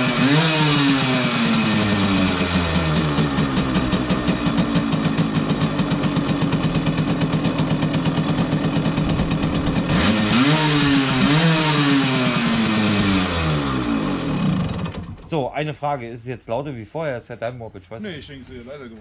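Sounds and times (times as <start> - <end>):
moped engine idling and revving: 0.0 - 15.3.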